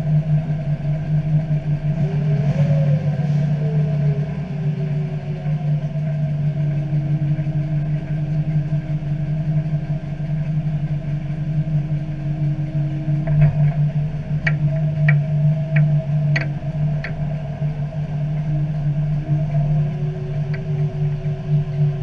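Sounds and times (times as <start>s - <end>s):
steady whine: 0.0s - 22.0s
straw chopper machine drone: 0.0s - 22.0s.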